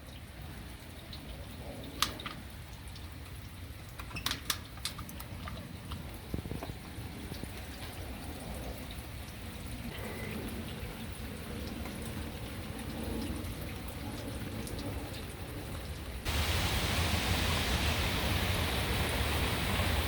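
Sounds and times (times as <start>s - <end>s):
rain dripping: 0.0s - 20.0s
sharp drips: 0.0s - 20.0s.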